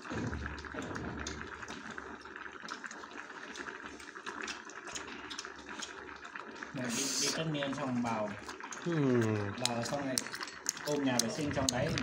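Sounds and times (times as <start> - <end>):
broth boiling and bubbling: 0.0 - 12.0.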